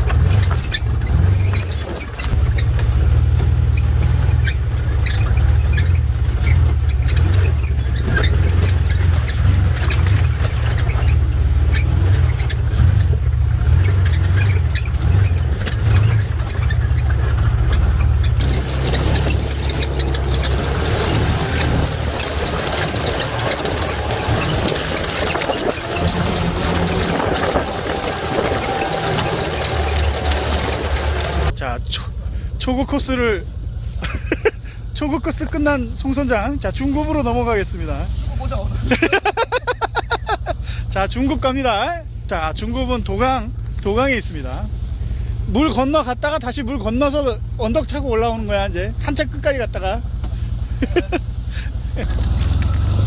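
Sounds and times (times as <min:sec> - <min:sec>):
off-road buggy engine running: 0:00.0 - 0:53.0.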